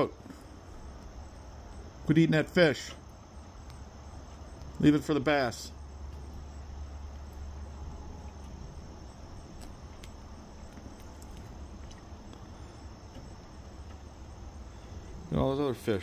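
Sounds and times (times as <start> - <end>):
crickets trilling: 0.0 - 16.0
low steady rumble: 0.0 - 16.0.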